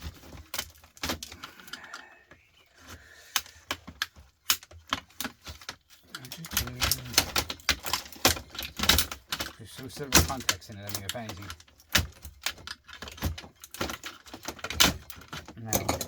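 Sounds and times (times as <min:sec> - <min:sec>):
hard plastic parts clicking and clattering: 0:00.0 - 0:16.0.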